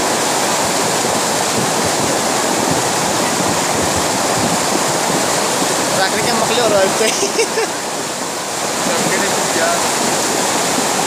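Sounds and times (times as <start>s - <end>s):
rushing flood water: 0.0s - 11.0s.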